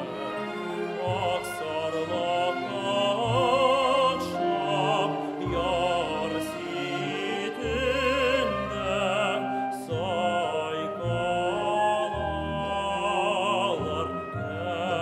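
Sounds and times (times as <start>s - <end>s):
man singing classical song: 0.0s - 15.0s
symphony orchestra strings: 0.0s - 15.0s.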